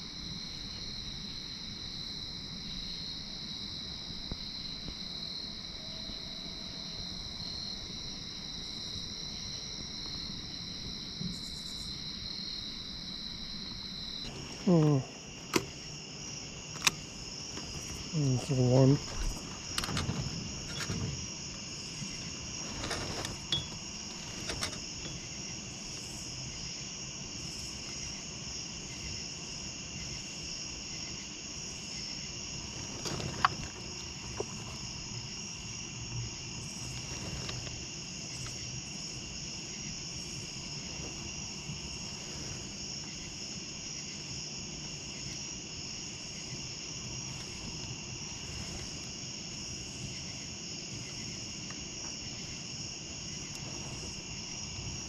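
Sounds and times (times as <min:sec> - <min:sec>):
insect pulsing call: 0:00.0 - 0:55.0
insects trilling: 0:00.0 - 0:55.0.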